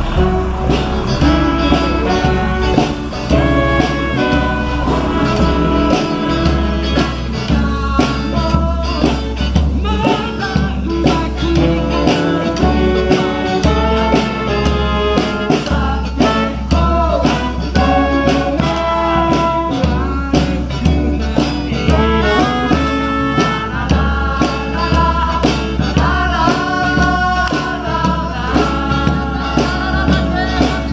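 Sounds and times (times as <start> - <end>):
live band playing bluesy folk: 0.0 - 30.9.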